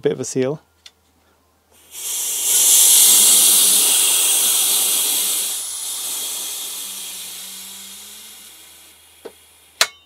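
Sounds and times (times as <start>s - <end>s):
compressed air hissing: 1.7s - 9.9s.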